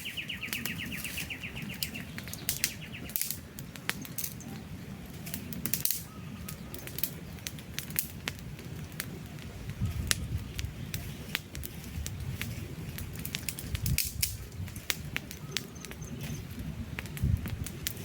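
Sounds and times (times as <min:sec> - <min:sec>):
campfire crackling and popping: 0:00.0 - 0:18.0
low rumble of flames: 0:00.0 - 0:18.0.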